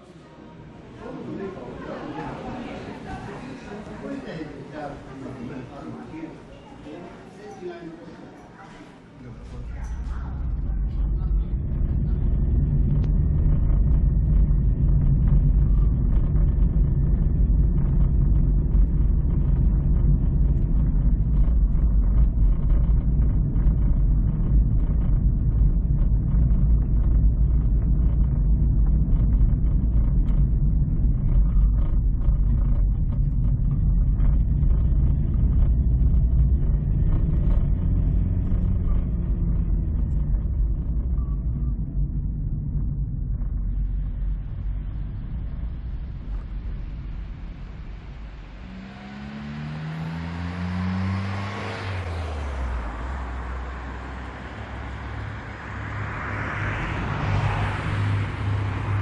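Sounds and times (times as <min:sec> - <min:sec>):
car engine and road noise: 0:08.3 - 0:59.0.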